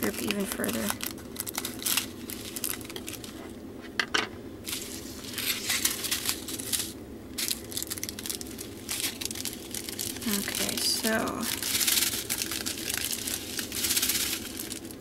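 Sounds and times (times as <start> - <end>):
small beads rattling in bags: 0.0 - 3.3, 4.7 - 15.0
plastic bags crinkling: 0.0 - 3.5, 4.6 - 15.0.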